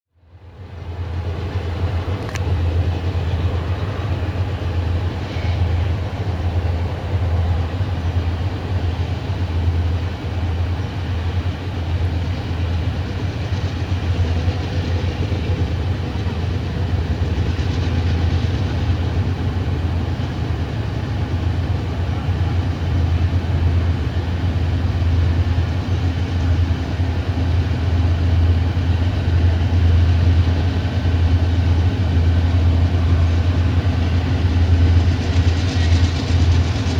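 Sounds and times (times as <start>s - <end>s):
locomotive engines droning: 0.2s - 36.9s.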